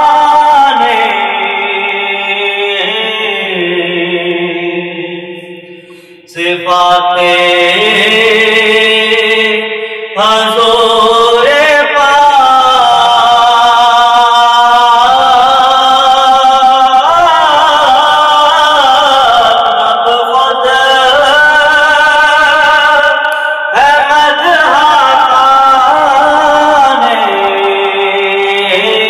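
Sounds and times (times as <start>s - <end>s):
man singing into a microphone: 0.0s - 29.0s.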